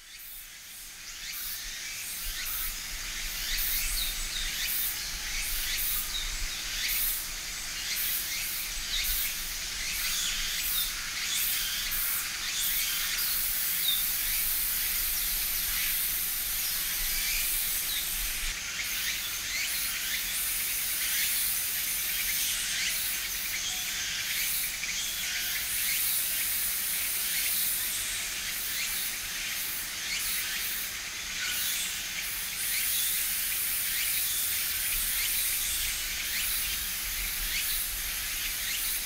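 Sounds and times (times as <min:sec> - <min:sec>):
high-pitched outdoor hiss: 0:00.0 - 0:39.0.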